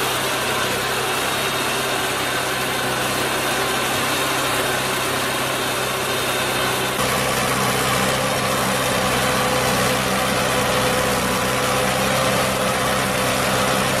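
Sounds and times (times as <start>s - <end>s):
heavy farm machine engine running: 0.0s - 14.0s.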